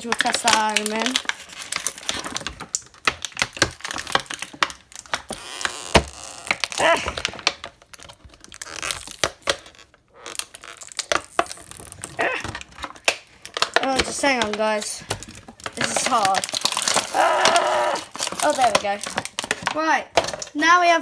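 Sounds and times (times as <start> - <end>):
plastic packaging crinkling: 0.0 - 20.6.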